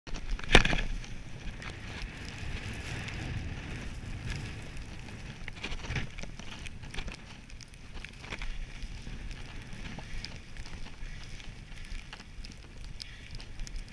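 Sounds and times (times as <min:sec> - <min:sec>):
wind buffeting microphone: 0:00.1 - 0:13.9
steady rumble: 0:00.2 - 0:13.9
skis hissing over snow: 0:00.9 - 0:13.9.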